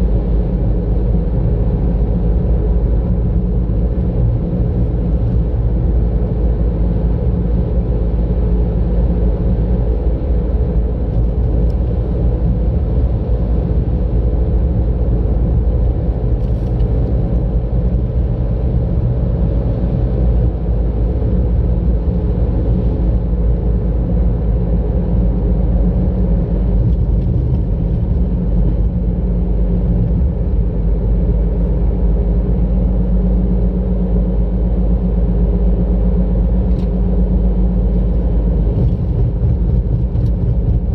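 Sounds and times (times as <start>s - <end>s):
car engine hum: 0.0s - 40.9s
tyre road noise: 0.0s - 40.9s.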